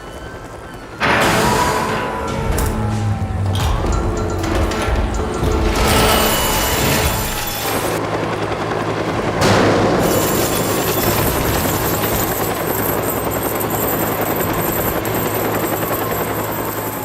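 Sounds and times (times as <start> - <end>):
helicopter-type engine rumble: 0.0 - 17.0.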